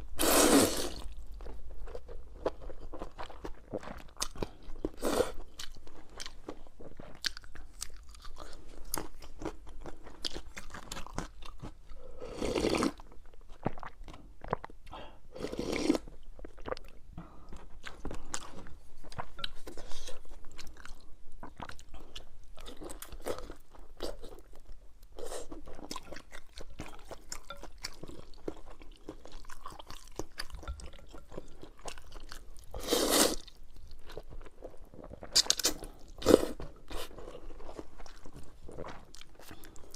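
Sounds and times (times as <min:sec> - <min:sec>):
chewing and crunching noodles: 0:00.0 - 0:39.9.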